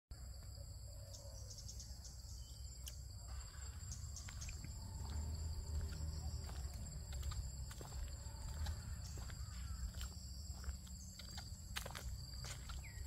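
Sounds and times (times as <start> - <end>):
insects chorus: 0.1 - 13.0.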